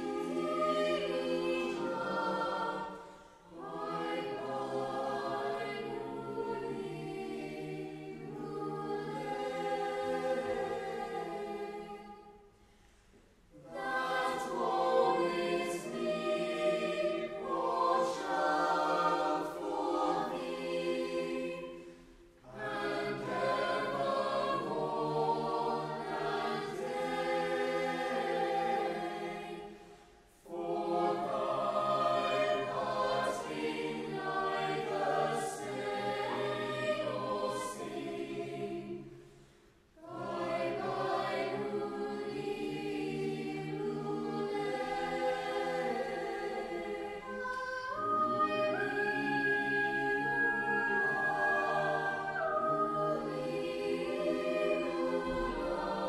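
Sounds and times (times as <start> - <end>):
choir singing a carol: 0.0 - 56.0.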